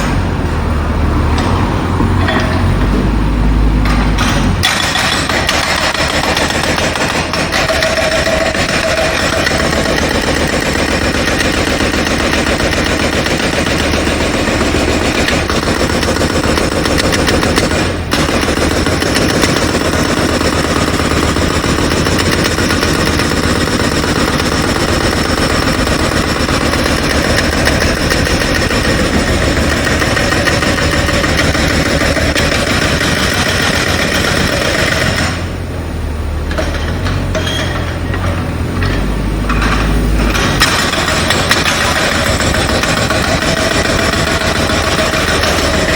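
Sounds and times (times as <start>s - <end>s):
jackhammer hammering: 3.8s - 35.6s, 36.5s - 45.9s.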